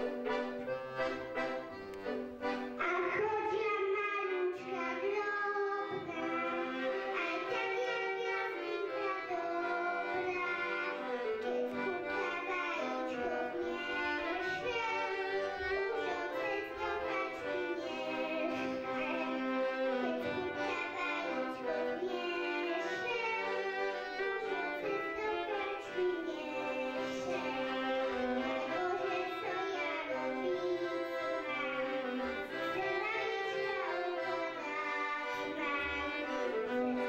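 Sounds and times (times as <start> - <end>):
accordion: 0.0 - 37.0
violin: 0.0 - 37.0
girl singing: 2.7 - 37.0.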